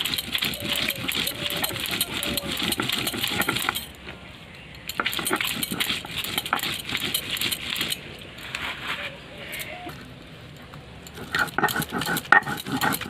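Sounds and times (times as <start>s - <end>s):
stone roller grinding on stone: 0.0s - 3.9s, 4.9s - 10.0s, 11.1s - 13.0s.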